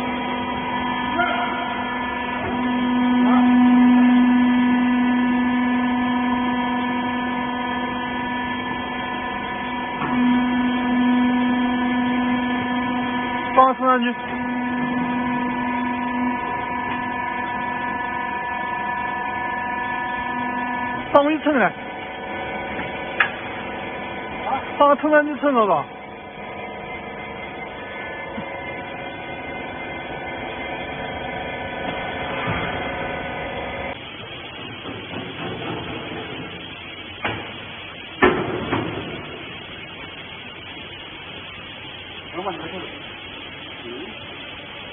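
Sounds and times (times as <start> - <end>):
electric motor and pump humming: 0.0 - 44.9.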